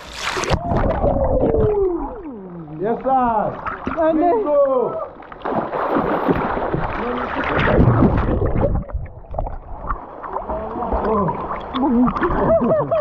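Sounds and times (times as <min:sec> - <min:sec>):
water splashing and churning: 0:00.0 - 0:13.0.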